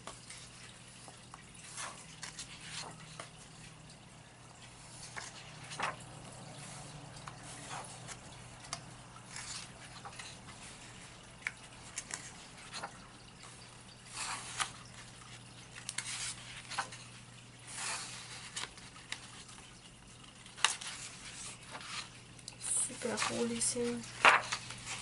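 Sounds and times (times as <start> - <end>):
paper pages turning: 0.0 - 4.0, 4.6 - 25.0.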